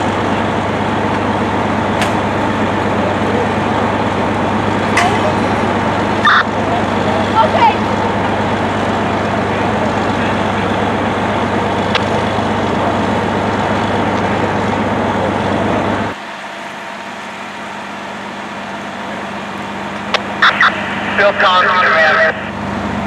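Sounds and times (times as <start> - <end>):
fire engine droning: 0.0 - 23.0.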